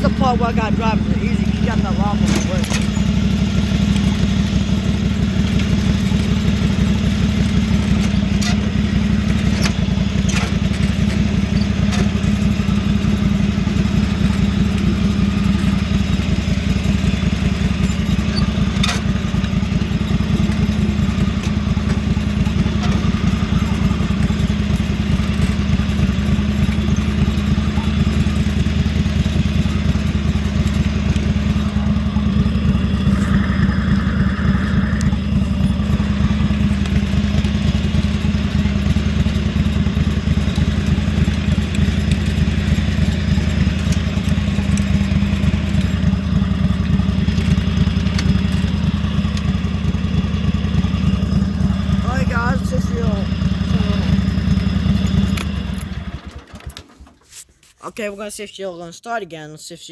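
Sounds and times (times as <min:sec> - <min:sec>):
lawnmower engine running: 0:00.0 - 0:57.8.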